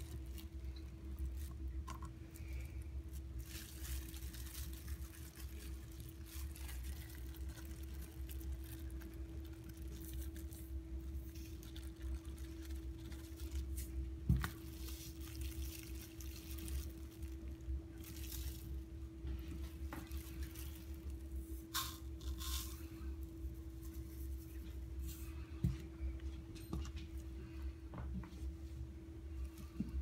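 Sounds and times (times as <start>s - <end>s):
plastic glove crinkling: 0.0s - 27.6s
steady low hum: 0.0s - 30.0s.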